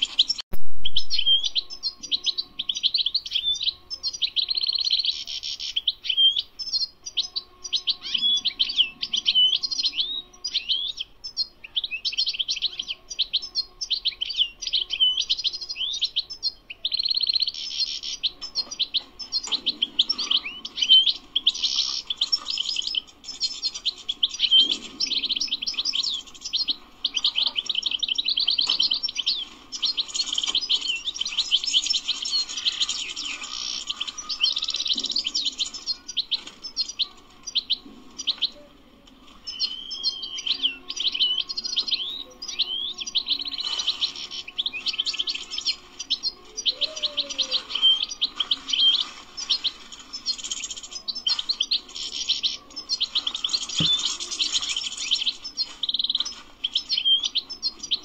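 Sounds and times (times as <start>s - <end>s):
goldfinch twittering song: 0.0s - 38.6s, 39.4s - 58.0s.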